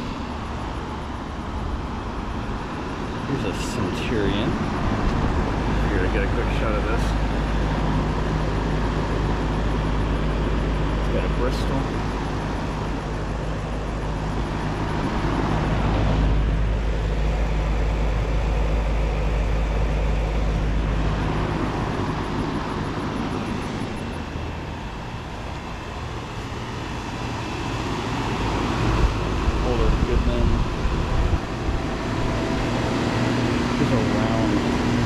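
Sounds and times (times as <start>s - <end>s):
compressor hum: 0.0s - 35.0s
condenser fan rushing: 0.0s - 35.0s.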